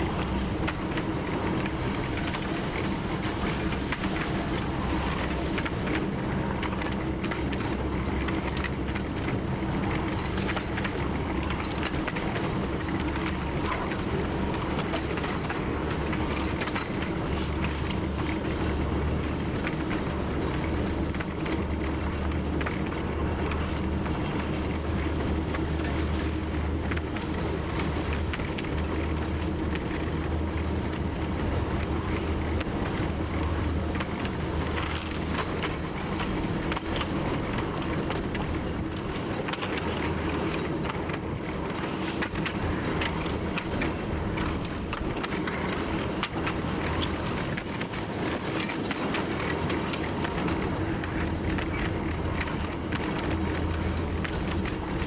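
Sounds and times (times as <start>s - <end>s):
diesel locomotive engine droning: 0.0s - 55.0s
wheels clattering over rail joints: 0.0s - 55.0s.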